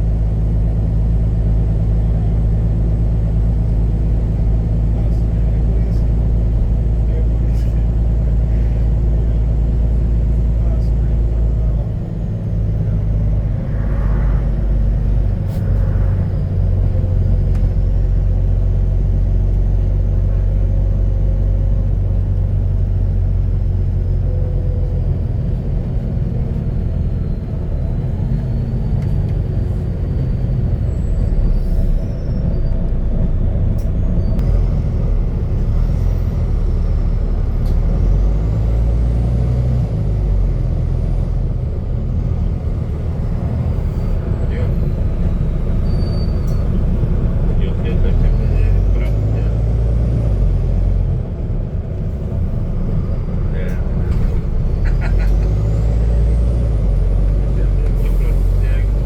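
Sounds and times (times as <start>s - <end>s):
bus diesel exhaust rumble: 0.0s - 59.0s.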